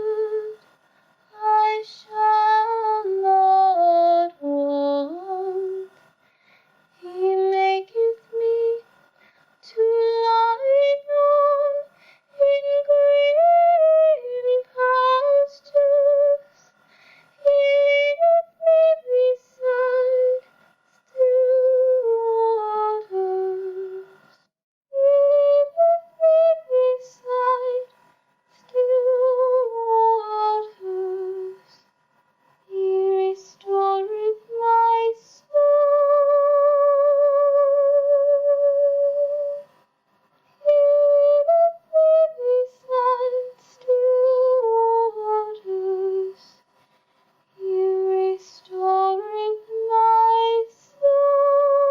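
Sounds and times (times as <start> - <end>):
woman singing a cappella: 0.0 - 6.1, 6.9 - 9.0, 9.6 - 24.4, 25.0 - 31.8, 32.6 - 39.8, 40.6 - 46.8, 47.6 - 51.9.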